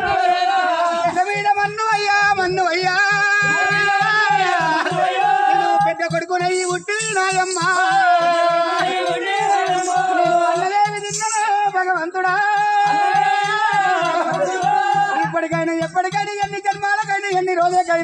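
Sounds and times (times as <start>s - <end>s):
man singing folk song: 0.0s - 18.0s.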